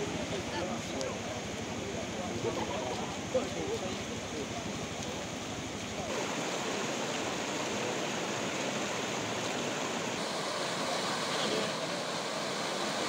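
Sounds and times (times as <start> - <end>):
flood water rushing over rubble: 0.0 - 13.0.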